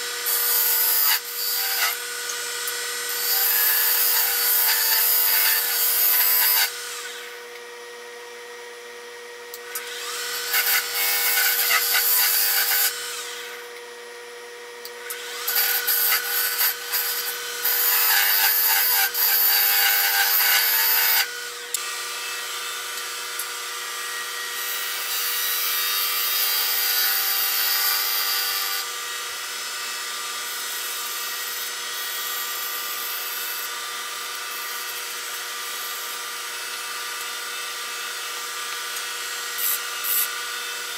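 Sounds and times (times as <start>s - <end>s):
turning tool cutting wood: 0.0s - 7.8s, 9.5s - 13.8s, 14.8s - 40.9s
wood lathe motor whine: 0.0s - 40.9s.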